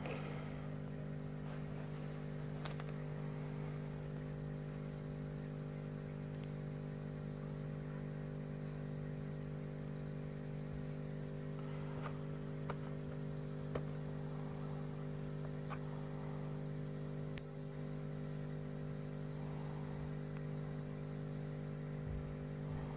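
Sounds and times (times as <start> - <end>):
steady machine hum: 0.0 - 22.9.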